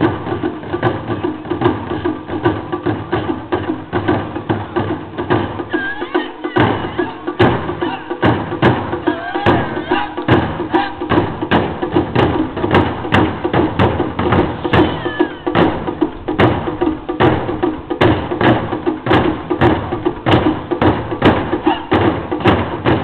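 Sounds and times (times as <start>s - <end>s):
background drum beat: 0.0s - 23.0s
taiko drums struck hard: 0.0s - 23.0s.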